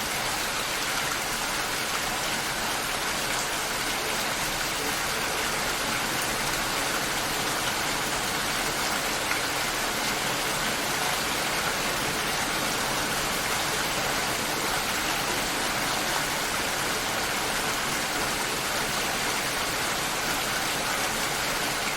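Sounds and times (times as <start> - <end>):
rain falling: 0.0 - 21.9.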